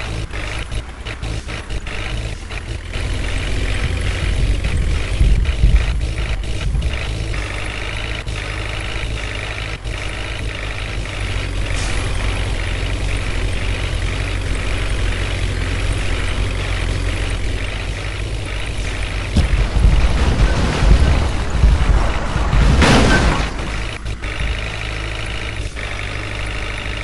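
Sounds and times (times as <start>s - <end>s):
deep rumble: 0.0s - 27.0s
diesel engine running: 0.0s - 27.0s.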